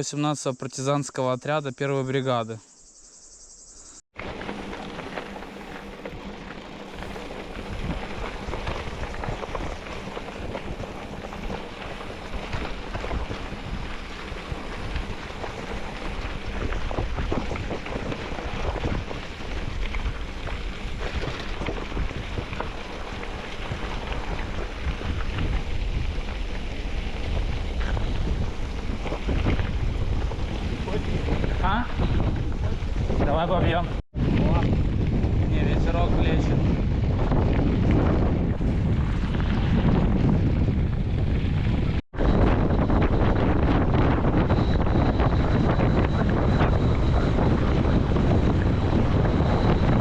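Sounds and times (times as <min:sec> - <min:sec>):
wind buffeting microphone: 0:04.3 - 0:50.0.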